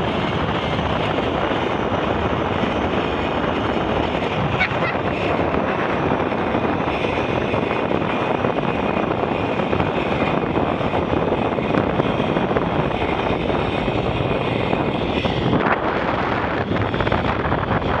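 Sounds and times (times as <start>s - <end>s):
wind buffeting microphone: 0.0s - 18.0s
zip line trolley on cable: 0.0s - 18.0s.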